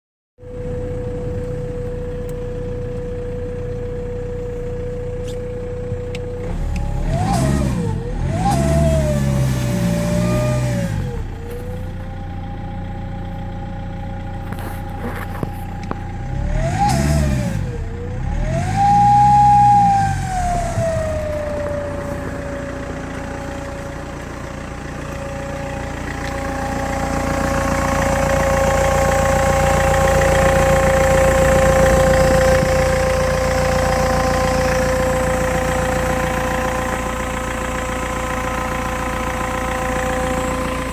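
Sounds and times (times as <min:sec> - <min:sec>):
car engine idling and revving: 0:00.4 - 0:40.9.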